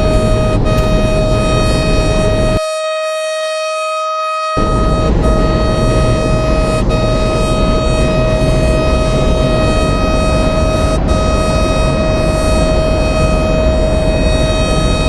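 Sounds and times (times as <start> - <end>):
rough low rumbling noise: 0.0 - 2.6, 4.6 - 15.0
siren steady tone: 0.0 - 15.0.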